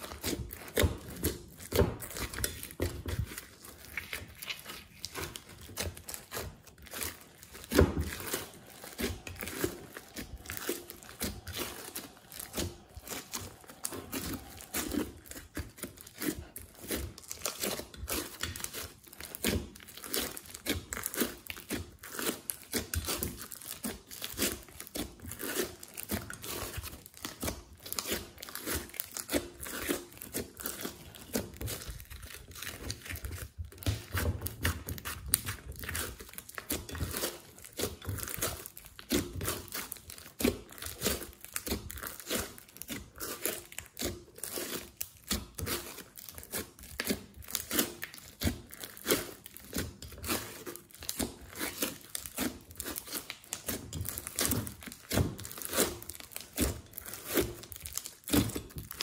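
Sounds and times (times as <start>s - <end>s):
slime squelching crackles and pops: 0.0s - 59.0s.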